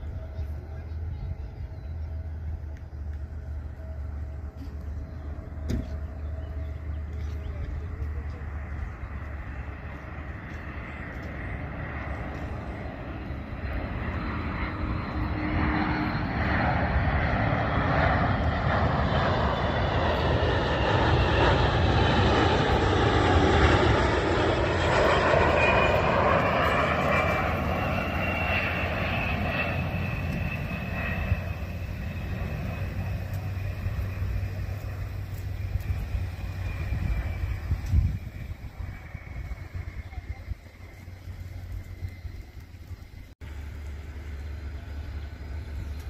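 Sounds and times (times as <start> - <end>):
jet aircraft flying past: 0.0 - 46.0.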